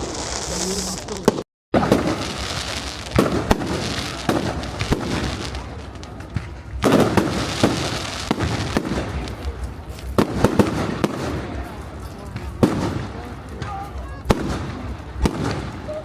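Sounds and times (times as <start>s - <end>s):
fireworks bangs: 0.0s - 16.0s
fireworks crackle: 0.0s - 16.0s.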